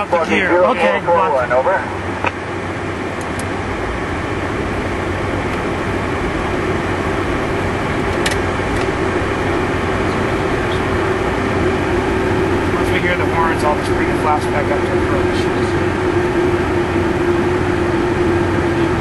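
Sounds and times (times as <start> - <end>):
jet engine and airflow noise: 0.0 - 19.0.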